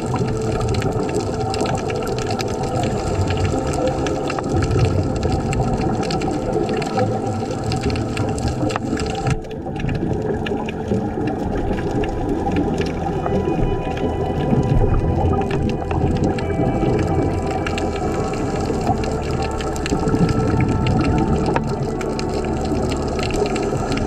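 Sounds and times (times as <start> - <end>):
scuba exhaled bubbles: 0.0 - 24.0
underwater rushing water: 0.0 - 24.0.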